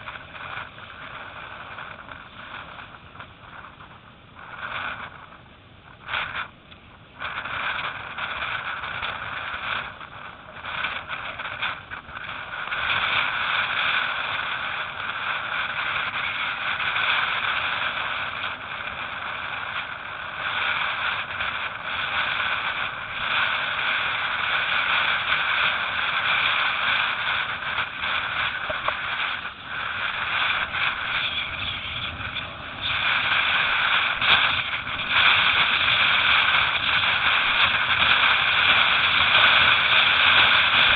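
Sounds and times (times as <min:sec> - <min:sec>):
wind rushing: 0:00.0 - 0:40.9.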